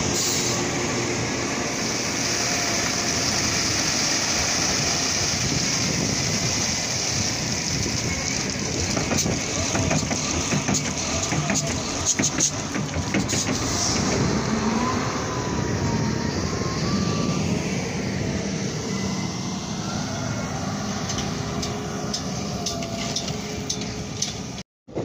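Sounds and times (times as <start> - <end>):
heavy machinery rumbling: 0.0 - 25.0.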